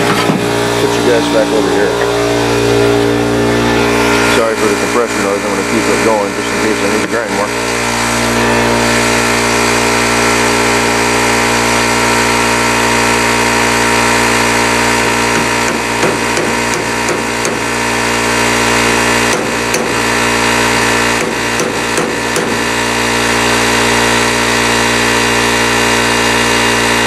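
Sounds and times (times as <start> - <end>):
air compressor running: 0.0 - 27.0.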